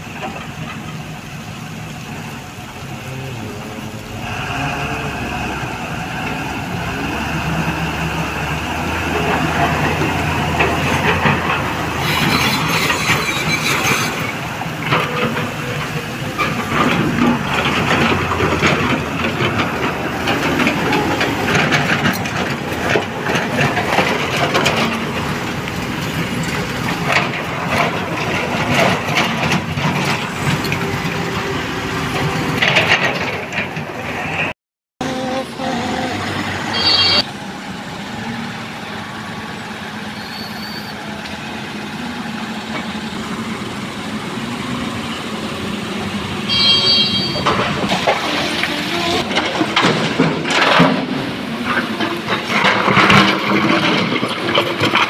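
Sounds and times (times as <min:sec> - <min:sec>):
diesel truck engine pulling away: 0:00.0 - 0:46.5
truck rattling and clanking: 0:00.0 - 0:55.0.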